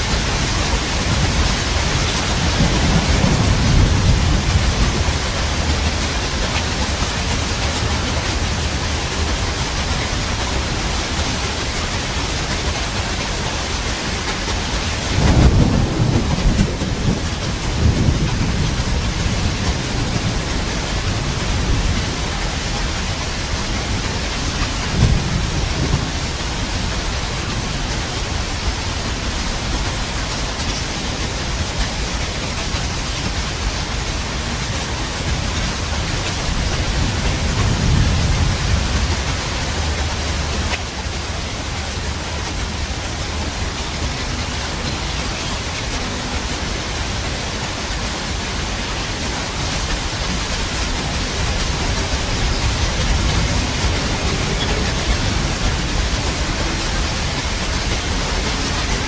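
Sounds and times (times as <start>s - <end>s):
heavy rain: 0.0s - 59.0s
thunder rumbling: 0.0s - 59.0s.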